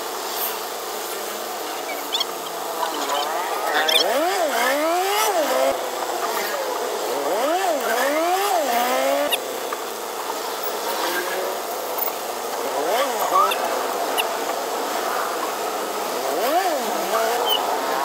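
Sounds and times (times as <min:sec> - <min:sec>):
steady traffic noise: 0:00.0 - 0:18.0
vehicle engine revving: 0:01.5 - 0:18.0.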